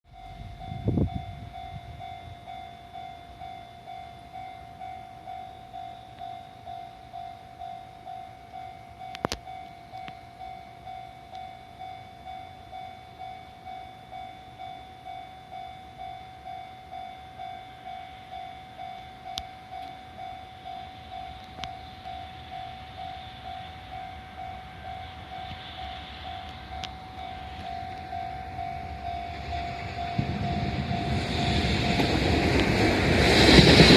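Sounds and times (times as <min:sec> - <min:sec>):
freight train rumble: 0:00.0 - 0:33.9
level-crossing warning bell: 0:00.1 - 0:33.9.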